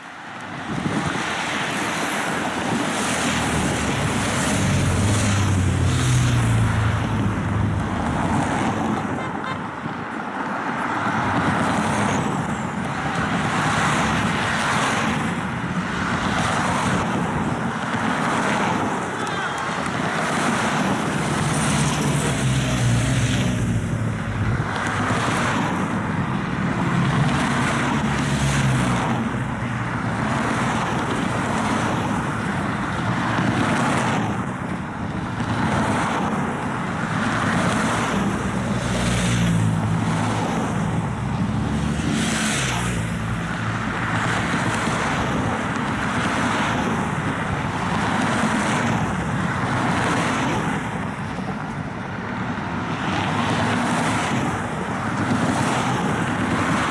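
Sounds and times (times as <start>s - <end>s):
cars and motorcycles passing: 0.0s - 56.9s.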